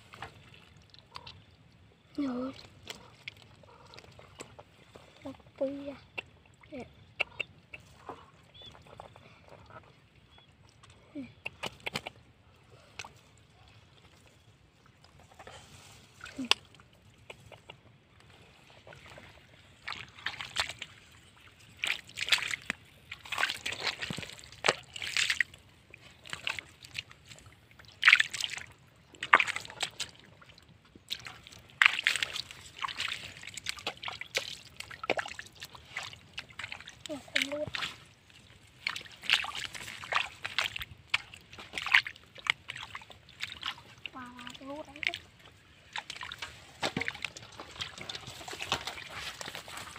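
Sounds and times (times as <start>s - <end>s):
water splashing and sloshing: 0.0s - 49.9s.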